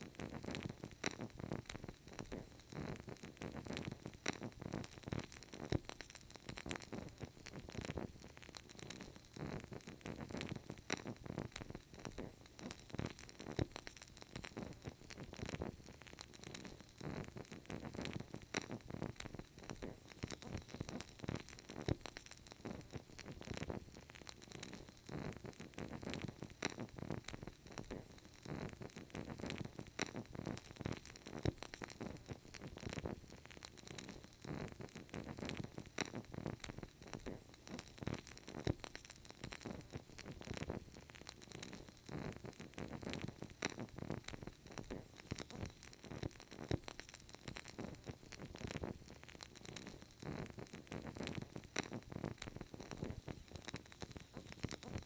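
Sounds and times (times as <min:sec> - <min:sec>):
candle crackling and popping: 0:00.0 - 0:55.0
faint steady hiss: 0:00.0 - 0:55.0.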